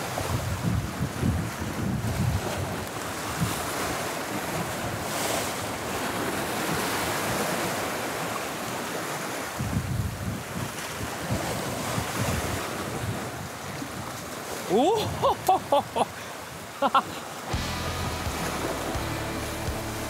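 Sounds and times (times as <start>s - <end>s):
wind buffeting microphone: 0.0s - 19.1s
surf breaking on rocks: 0.0s - 20.0s.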